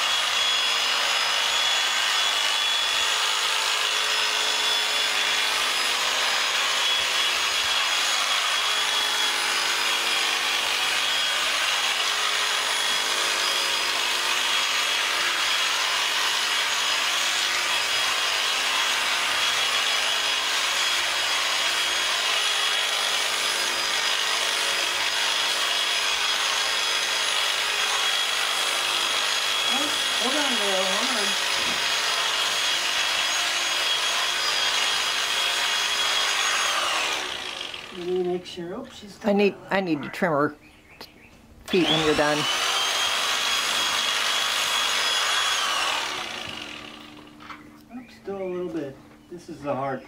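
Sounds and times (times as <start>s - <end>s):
electric clippers cutting fleece: 0.0s - 38.2s, 41.7s - 47.6s.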